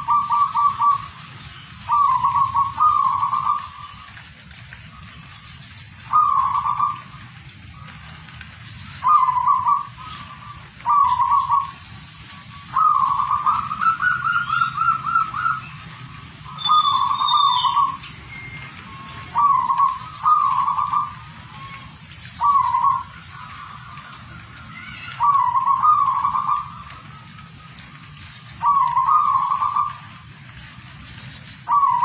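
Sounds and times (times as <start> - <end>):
dove cooing: 0.0 - 5.3, 6.0 - 18.1, 18.8 - 27.1, 28.6 - 30.2, 31.6 - 32.0.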